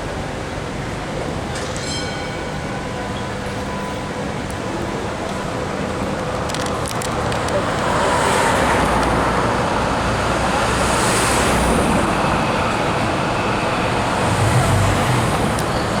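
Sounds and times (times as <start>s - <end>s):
tram wheels and motors rumbling: 0.0s - 16.0s.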